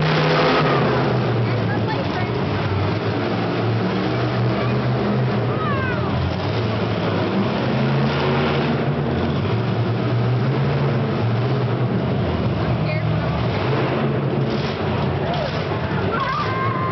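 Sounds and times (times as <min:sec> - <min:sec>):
truck engine droning: 0:00.0 - 0:16.9.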